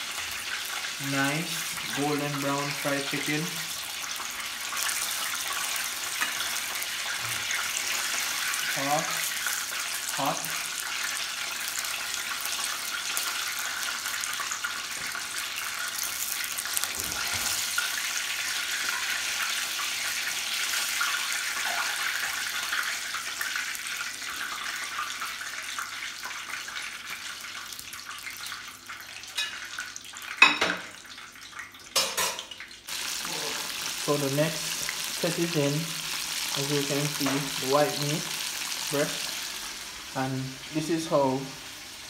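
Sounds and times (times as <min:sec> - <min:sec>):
chicken frying in hot oil: 0:00.0 - 0:42.0.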